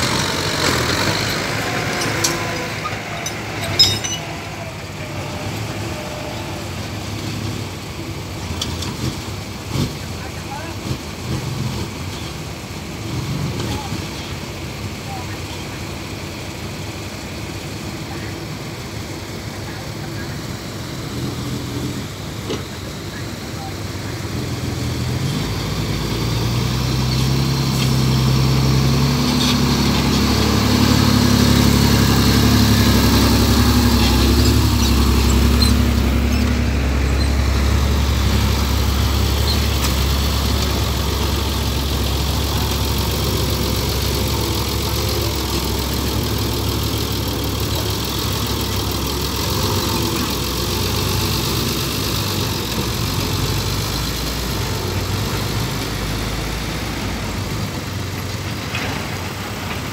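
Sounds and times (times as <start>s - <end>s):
dump truck engine under load: 0.0s - 59.9s.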